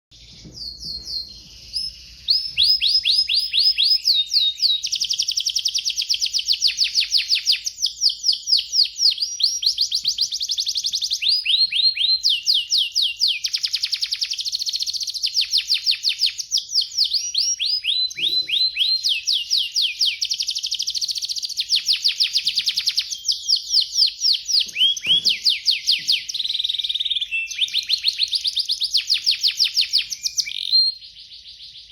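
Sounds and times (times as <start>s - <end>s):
canary singing trills: 0.2s - 31.9s.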